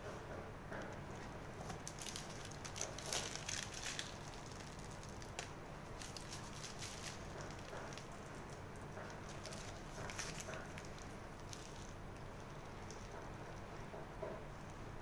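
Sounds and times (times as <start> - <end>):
plastic piping bag crinkling: 0.9 - 14.0.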